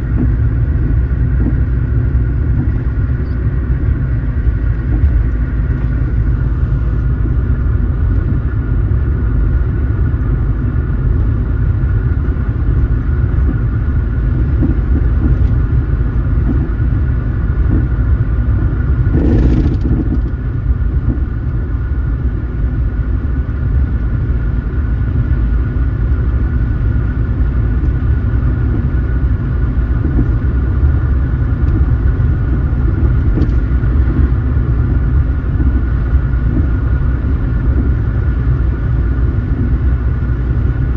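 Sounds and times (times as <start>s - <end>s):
engine and road noise rumble: 0.0s - 40.9s
faint steady whine: 0.0s - 40.9s.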